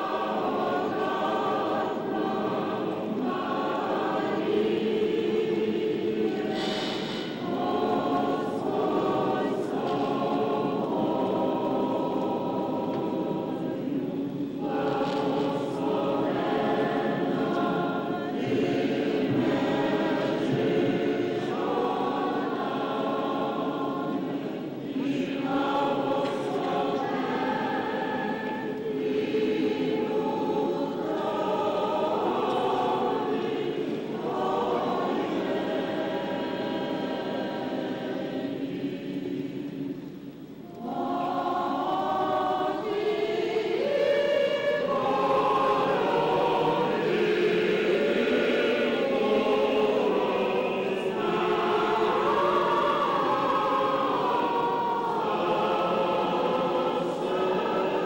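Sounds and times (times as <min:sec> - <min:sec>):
choir chanting: 0:00.0 - 0:58.0.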